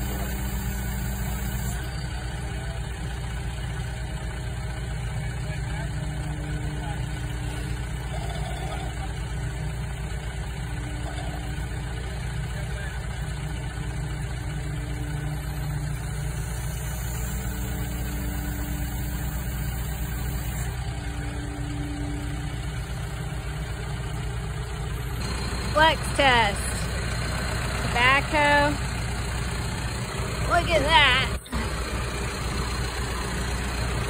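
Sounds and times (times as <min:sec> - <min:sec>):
diesel engines idling: 0:00.0 - 0:34.0.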